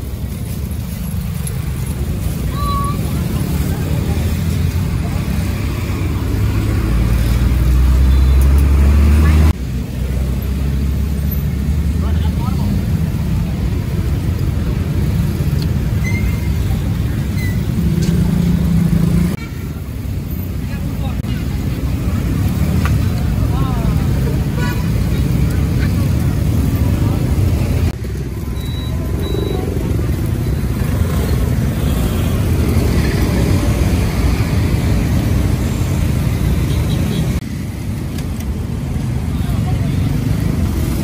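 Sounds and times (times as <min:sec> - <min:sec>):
motorbikes and cars passing: 0:00.0 - 0:41.0.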